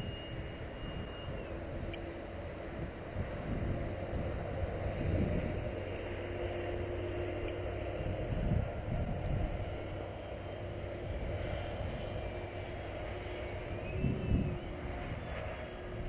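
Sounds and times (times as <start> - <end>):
wind buffeting microphone: 0.0 - 6.3, 7.3 - 16.0
distant model plane motor drone: 0.0 - 16.0.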